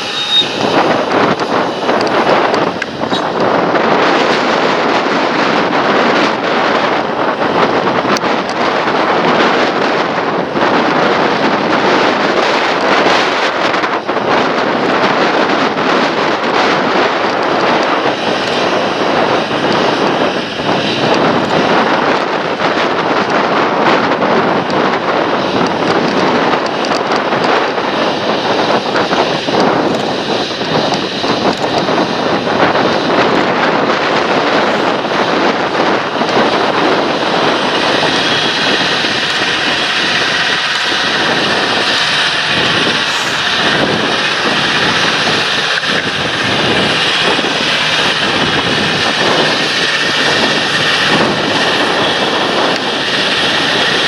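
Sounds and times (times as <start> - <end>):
steady high whine: 0.0 - 54.0
tractor engine under load: 0.0 - 54.0.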